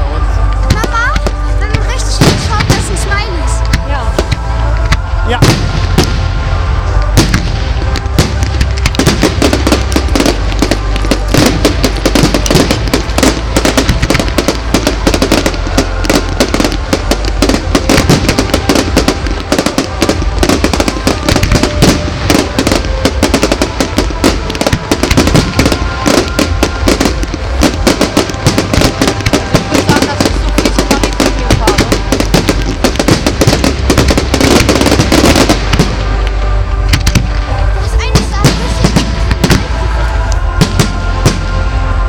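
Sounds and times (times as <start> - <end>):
fireworks bangs and crackling: 0.0 - 42.0
music: 0.0 - 42.0.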